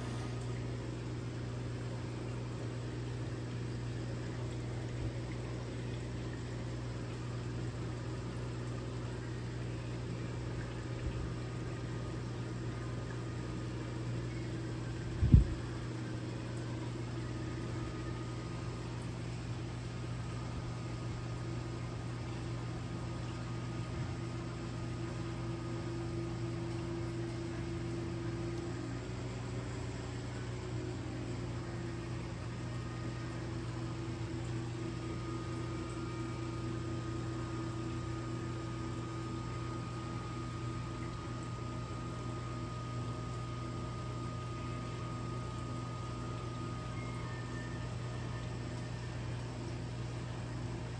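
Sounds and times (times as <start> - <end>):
aquarium pumps humming: 0.0 - 50.9.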